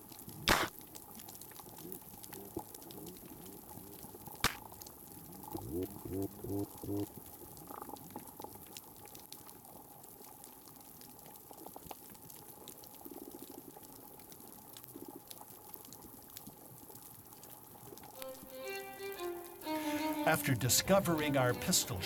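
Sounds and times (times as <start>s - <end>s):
constant hiss: 0.0s - 22.0s.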